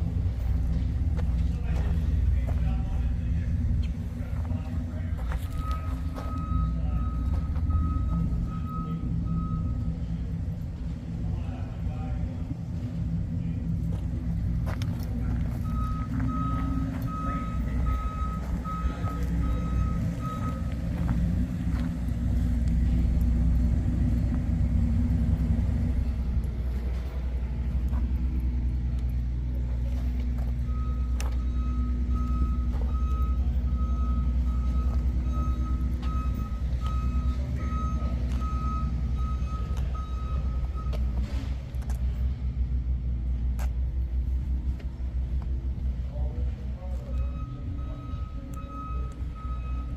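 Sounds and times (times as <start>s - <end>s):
car engine idling with deep rumble: 0.0s - 49.9s.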